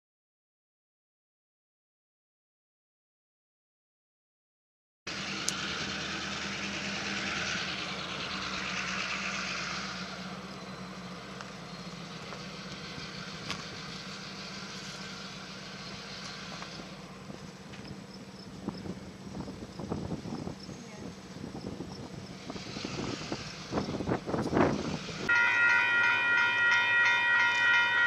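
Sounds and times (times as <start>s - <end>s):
low engine hum: 5.1s - 28.0s
vehicle noise: 5.1s - 28.0s.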